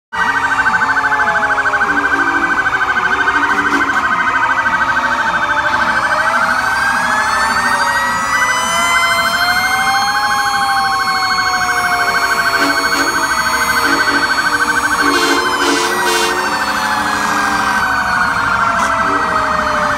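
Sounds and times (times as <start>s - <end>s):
wailing sirens: 0.1s - 19.9s
pulsing electronic siren warble: 0.2s - 19.9s.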